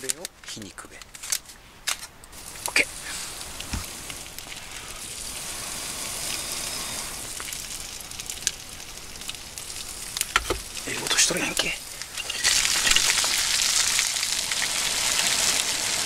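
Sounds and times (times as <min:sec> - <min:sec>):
campfire crackling and hissing: 0:00.0 - 0:16.0.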